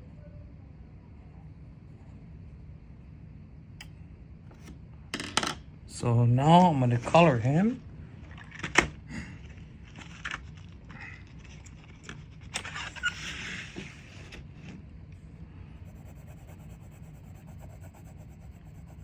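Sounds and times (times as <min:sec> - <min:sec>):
low room noise: 0:00.0 - 0:19.0.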